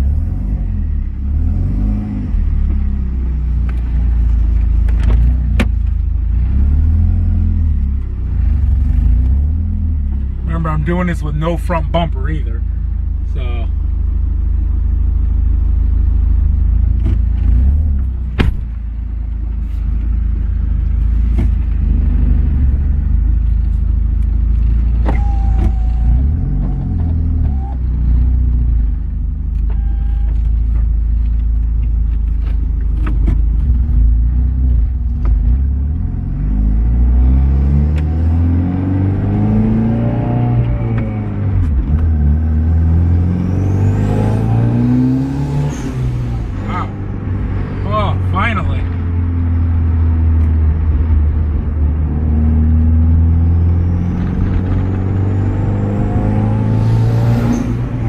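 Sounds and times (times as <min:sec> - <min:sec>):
car engine rumbling: 0:00.0 - 0:58.0.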